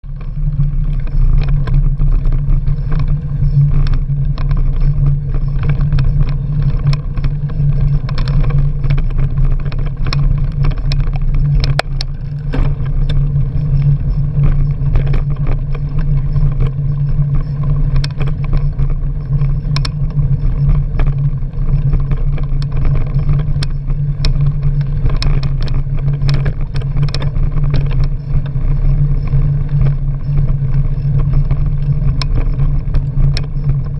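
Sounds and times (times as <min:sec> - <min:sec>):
bicycle clicks and knocks: 0:00.0 - 0:33.9
wind buffeting microphone: 0:00.0 - 0:33.9.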